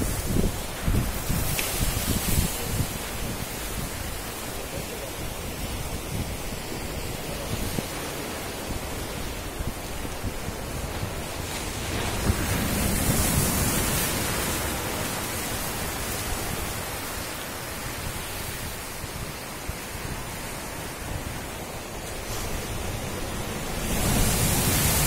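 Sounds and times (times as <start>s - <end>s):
surf breaking on rocks: 0.0s - 25.0s.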